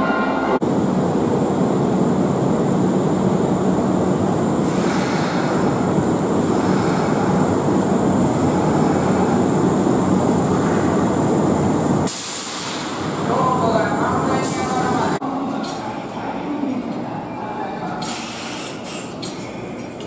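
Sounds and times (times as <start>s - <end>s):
electric train rolling: 0.0s - 20.0s.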